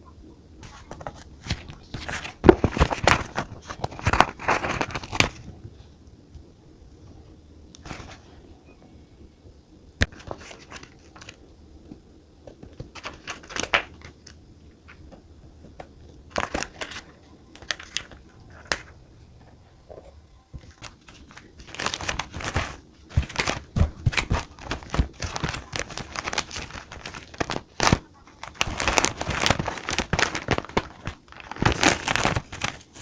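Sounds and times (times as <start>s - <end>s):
paper crinkling and rustling: 0.6s - 5.8s, 7.8s - 8.4s, 10.0s - 33.0s.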